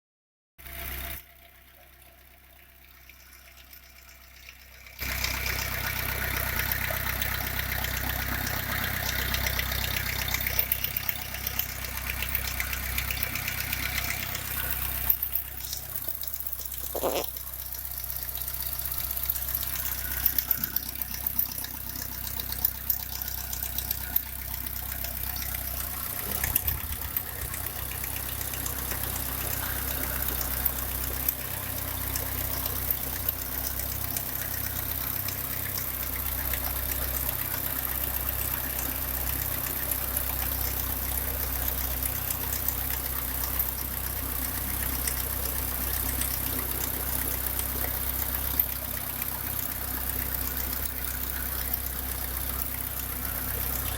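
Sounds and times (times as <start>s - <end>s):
car engine idling: 0.6s - 53.9s
engine clacking: 0.6s - 53.9s.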